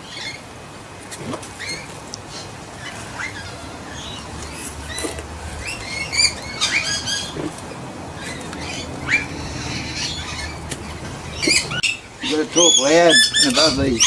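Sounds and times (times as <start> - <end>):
magpies squawking and warbling: 1.1 - 14.0.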